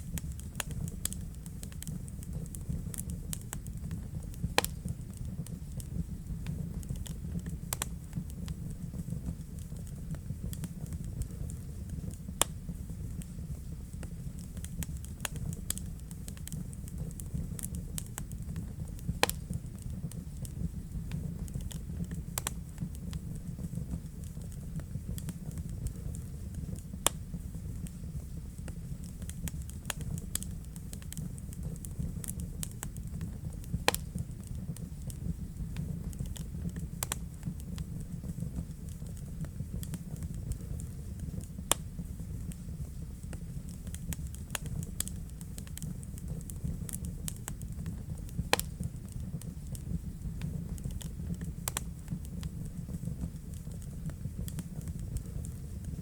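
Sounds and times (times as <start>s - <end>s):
fire crackles and pops: 0.0s - 56.0s
low rumble of flames: 0.0s - 56.0s.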